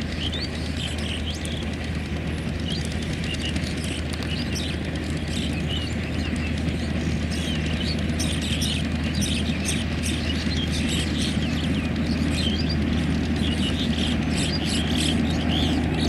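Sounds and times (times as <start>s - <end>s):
passing train rumble: 0.0s - 16.0s
small birds chirping: 0.1s - 1.8s, 2.4s - 16.0s.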